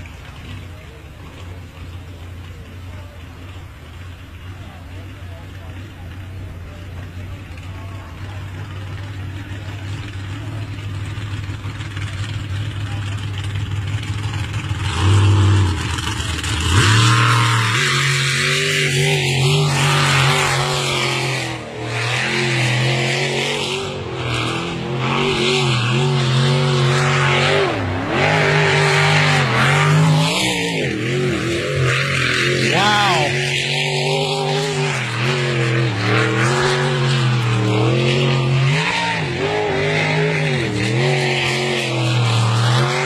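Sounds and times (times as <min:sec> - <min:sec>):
boat engine revving hard: 0:00.0 - 0:43.0.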